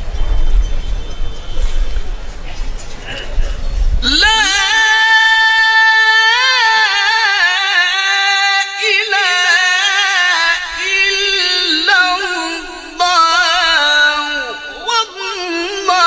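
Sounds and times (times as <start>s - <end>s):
man reciting melodically: 3.0s - 16.0s.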